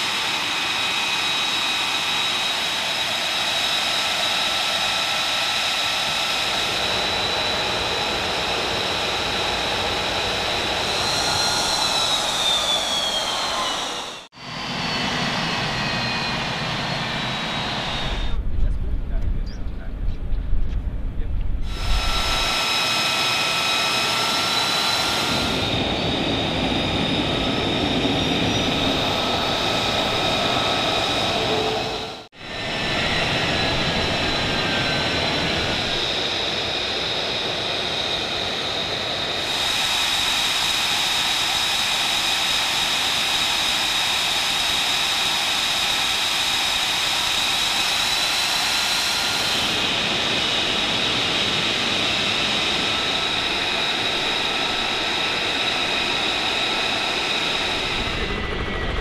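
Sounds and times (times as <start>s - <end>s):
jet engine idling: 0.0s - 59.0s.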